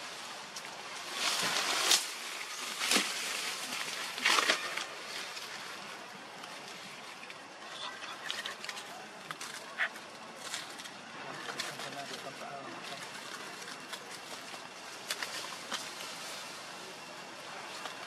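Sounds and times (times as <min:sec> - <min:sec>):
dry leaves rustling: 0:00.0 - 0:18.0.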